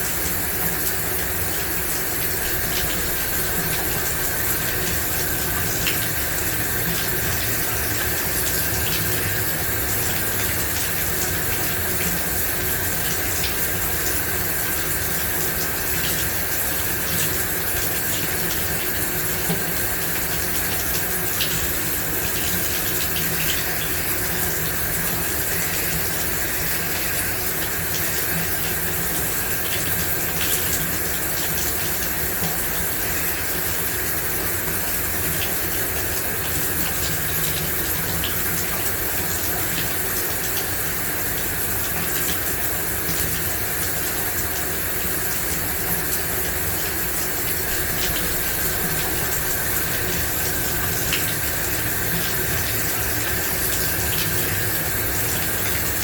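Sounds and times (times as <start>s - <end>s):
shower spraying water: 0.0s - 56.0s.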